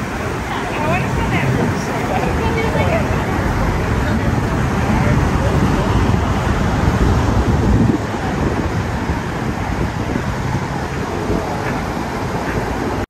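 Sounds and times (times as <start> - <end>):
street traffic roar: 0.0 - 13.0.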